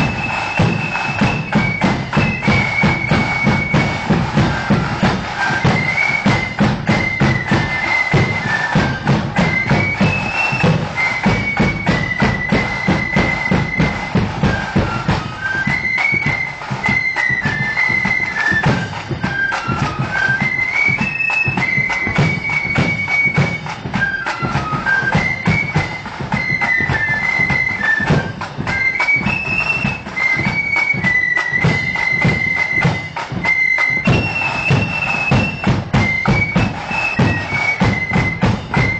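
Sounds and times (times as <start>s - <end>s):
shrill flutes playing melody: 0.0s - 38.9s
snare drum strokes: 0.0s - 38.9s.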